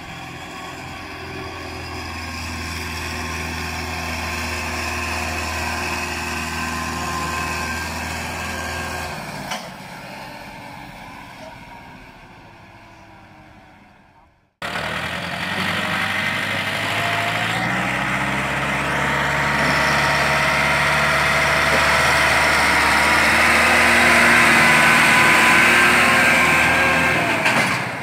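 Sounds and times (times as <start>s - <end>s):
tractor diesel engine: 0.0s - 28.0s.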